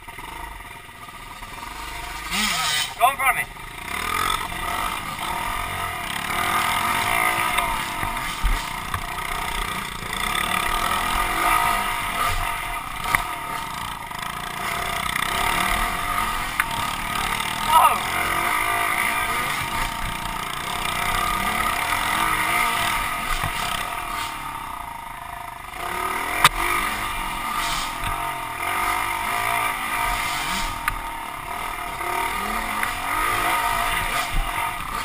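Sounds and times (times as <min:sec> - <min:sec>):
pit bike engines revving: 0:00.0 - 0:35.0.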